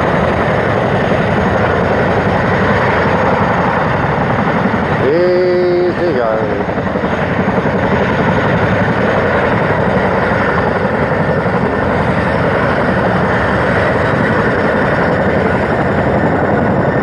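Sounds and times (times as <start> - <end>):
helicopter rotors beating: 0.0 - 17.0
turbine engine whine: 0.0 - 17.0.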